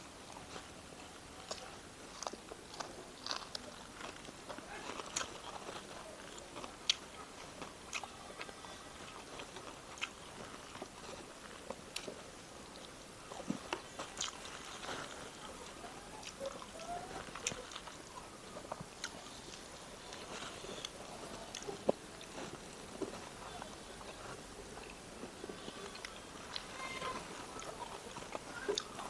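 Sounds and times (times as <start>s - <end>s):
person chewing food: 0.2s - 29.0s
food crunching: 0.3s - 29.0s.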